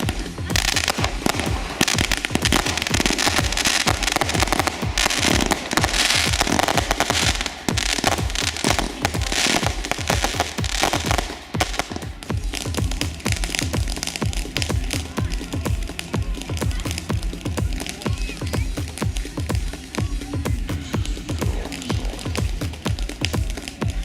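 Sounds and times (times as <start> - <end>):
dance music with steady beat: 0.0 - 24.0
fireworks crackling and banging: 0.0 - 24.0.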